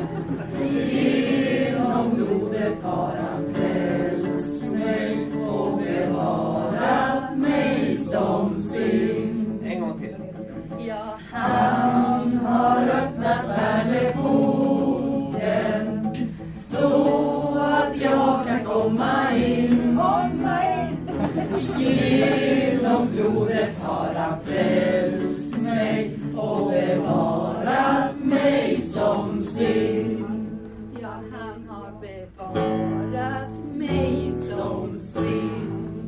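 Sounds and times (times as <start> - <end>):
mixed choir singing: 0.0 - 36.0.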